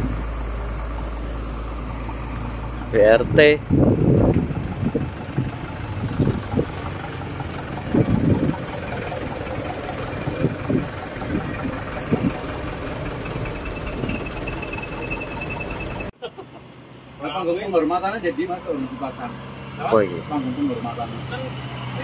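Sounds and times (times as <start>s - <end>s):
road traffic: 0.0s - 22.0s
truck engine idling: 0.0s - 22.0s.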